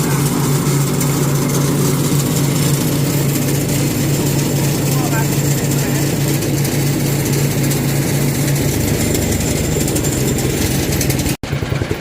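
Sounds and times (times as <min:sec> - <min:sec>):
shredder engine running: 0:00.0 - 0:12.0.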